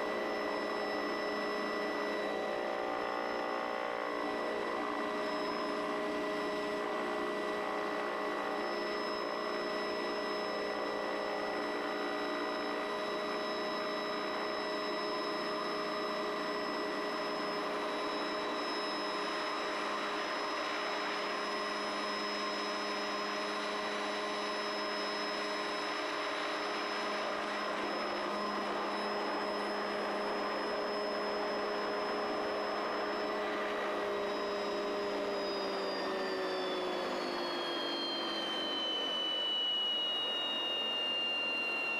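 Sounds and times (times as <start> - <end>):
helicopter turbine whine: 0.0 - 41.9.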